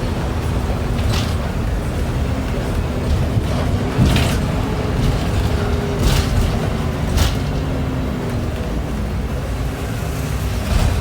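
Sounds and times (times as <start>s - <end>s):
diesel bus engine running: 0.0s - 11.0s.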